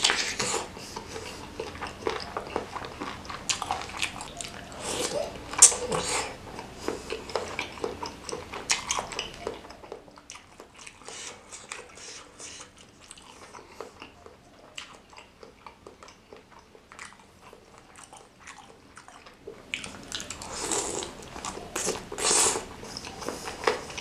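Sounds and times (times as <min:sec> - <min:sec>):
wet chewing mouth clicks: 0:00.0 - 0:24.0.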